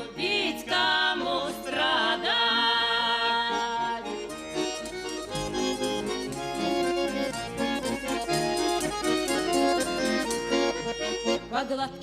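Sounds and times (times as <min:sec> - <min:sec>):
accordion playing: 0:00.0 - 0:12.0.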